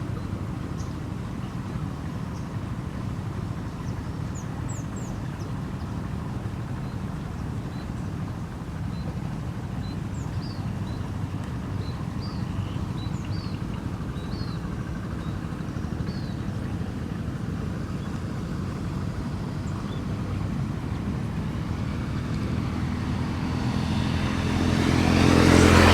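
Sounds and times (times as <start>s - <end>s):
vehicle engine humming: 0.0s - 25.9s.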